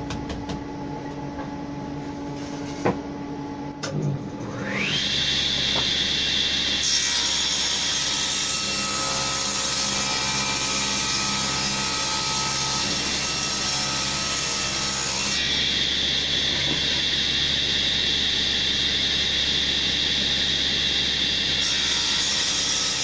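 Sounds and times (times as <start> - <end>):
table saw whine: 4.0 - 23.0.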